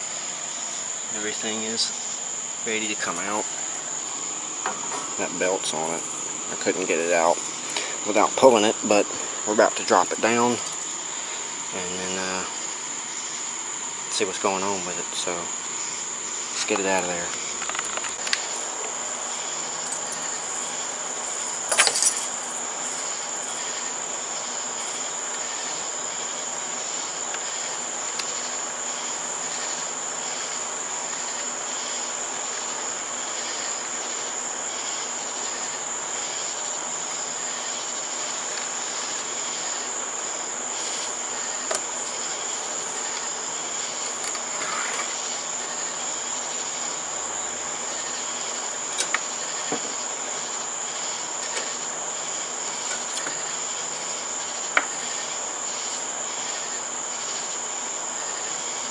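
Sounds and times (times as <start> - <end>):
crickets chirping: 0.0 - 58.9.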